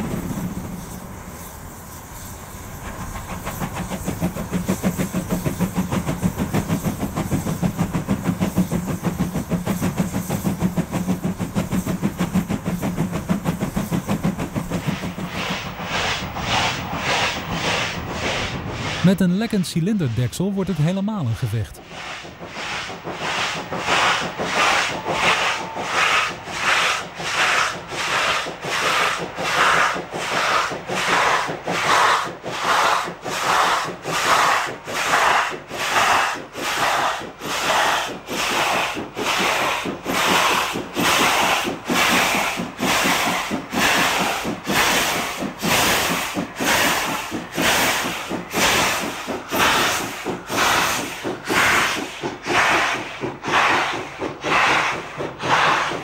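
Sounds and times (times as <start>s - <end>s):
steam leaking: 0.0s - 56.0s
steam locomotive exhaust beats: 0.0s - 56.0s.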